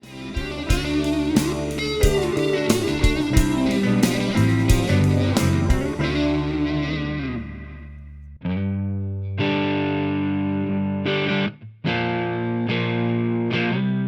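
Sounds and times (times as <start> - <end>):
overdriven electric guitar chords: 0.0 - 8.8, 9.4 - 14.0.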